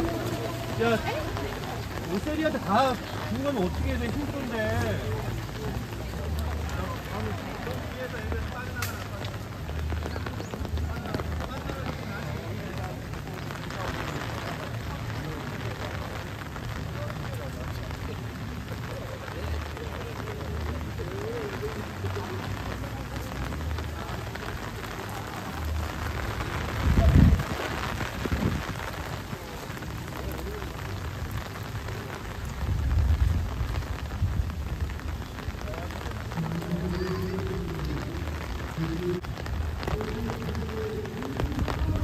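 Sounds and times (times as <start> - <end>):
rain on wet pavement: 0.0 - 42.0.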